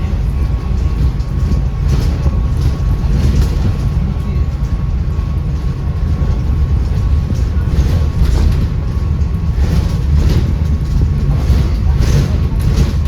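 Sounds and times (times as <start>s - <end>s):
bus diesel engine rumbling: 0.0s - 13.0s
cooling fans: 0.0s - 13.0s.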